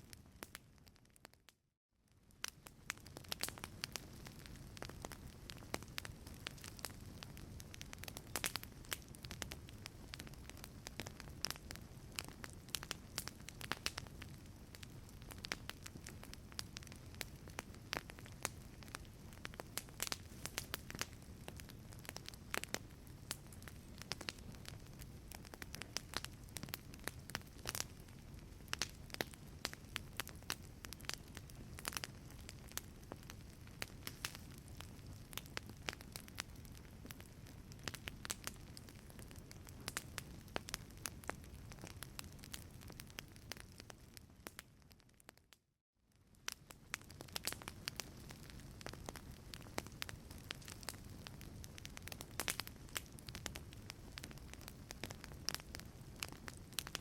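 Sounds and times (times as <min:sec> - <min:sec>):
wood fire crackling: 0:00.0 - 0:01.5, 0:02.1 - 0:45.3, 0:46.1 - 0:57.0.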